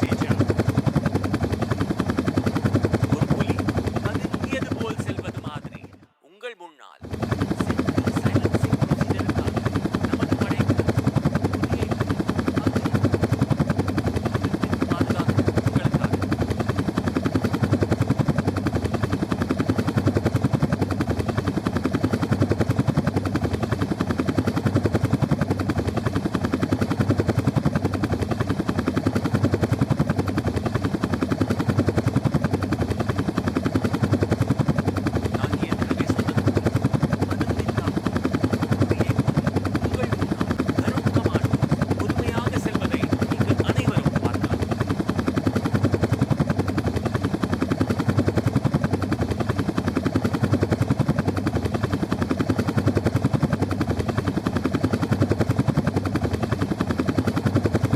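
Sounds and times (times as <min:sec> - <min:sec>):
helicopter rotor beating: 0:00.0 - 0:57.9.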